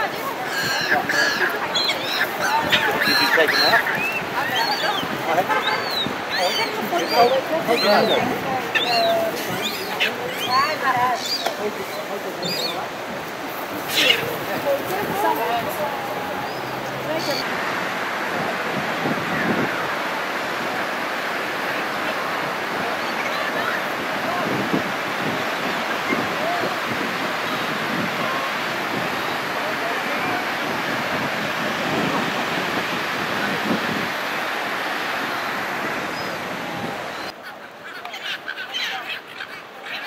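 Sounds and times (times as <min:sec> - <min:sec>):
gulls squawking: 0:00.0 - 0:13.0, 0:13.8 - 0:17.5, 0:21.7 - 0:40.0
ocean surf breaking on beach: 0:00.0 - 0:39.8.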